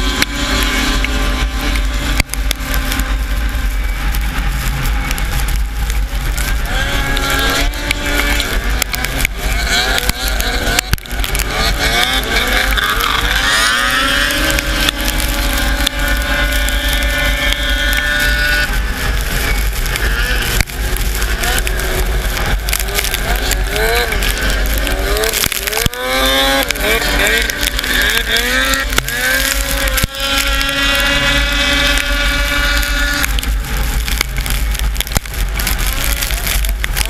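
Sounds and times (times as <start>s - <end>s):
sled knocking on bumps: 0.0s - 37.0s
snowmobile engine revving: 0.0s - 37.0s.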